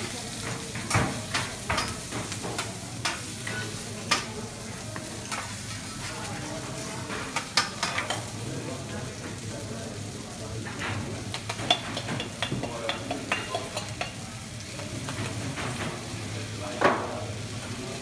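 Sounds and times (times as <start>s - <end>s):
food sizzling on a griddle: 0.0s - 18.0s.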